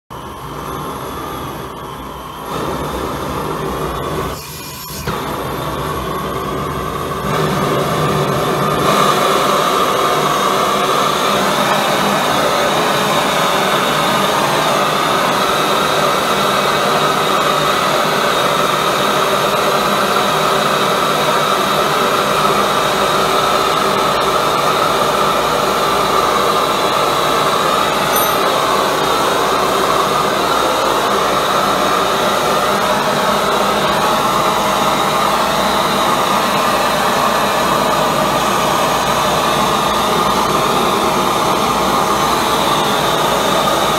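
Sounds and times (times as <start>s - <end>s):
forge burner roaring: 0.1s - 43.9s.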